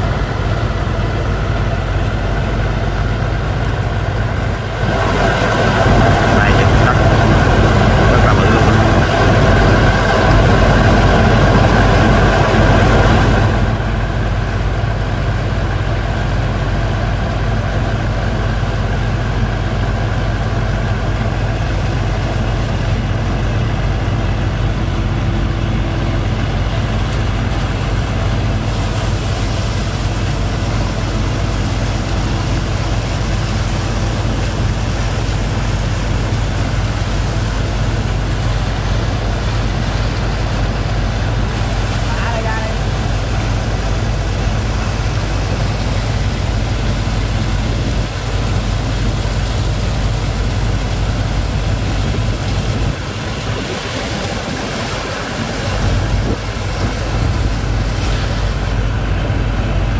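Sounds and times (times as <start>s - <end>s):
pump engine running: 0.0s - 59.9s.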